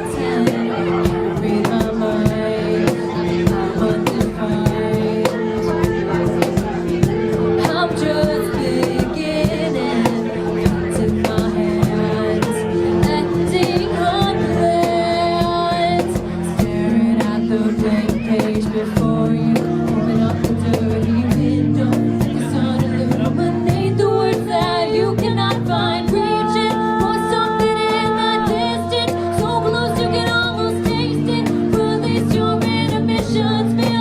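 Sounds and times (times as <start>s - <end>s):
person singing long notes: 0.0s - 34.0s
strummed guitar chords: 0.0s - 34.0s.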